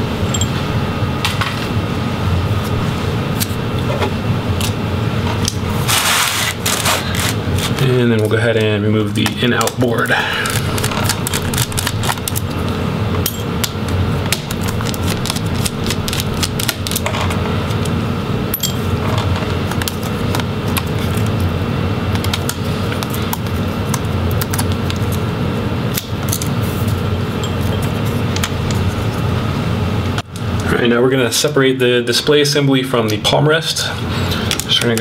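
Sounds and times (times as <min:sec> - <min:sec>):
steady low rumble: 0:00.0 - 0:06.0, 0:06.6 - 0:30.8.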